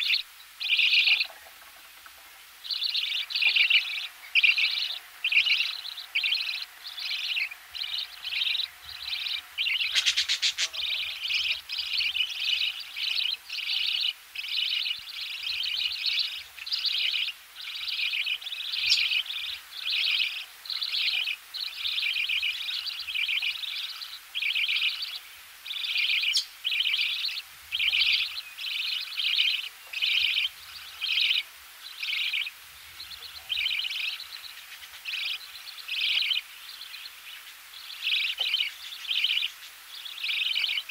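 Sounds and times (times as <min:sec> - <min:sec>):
nestlings buzzy begging chirps: 0:00.0 - 0:40.9.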